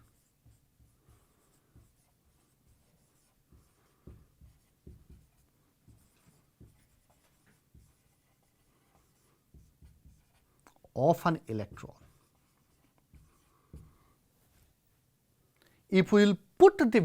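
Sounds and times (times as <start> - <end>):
handwriting strokes and taps: 0.0 - 10.8, 11.5 - 14.7.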